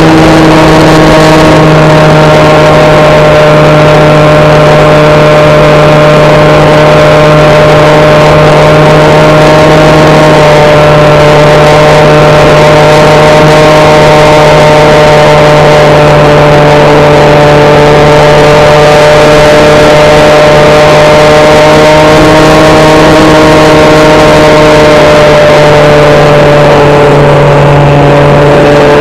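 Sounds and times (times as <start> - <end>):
electric motor and propeller whine: 0.0 - 29.0.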